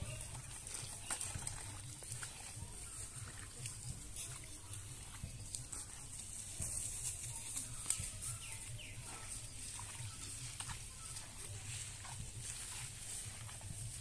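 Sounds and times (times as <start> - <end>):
footsteps through wet weeds: 0.0 - 14.0.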